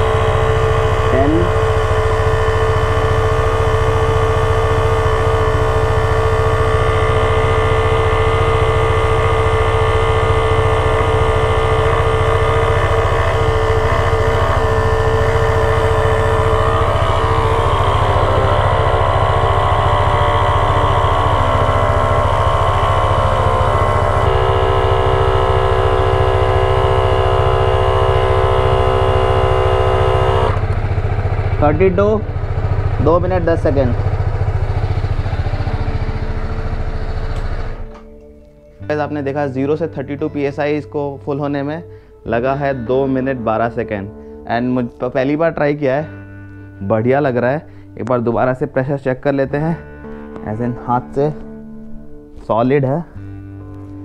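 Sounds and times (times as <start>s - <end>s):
air compressor buzzing drone: 0.0s - 44.5s, 47.6s - 48.0s, 53.1s - 54.0s.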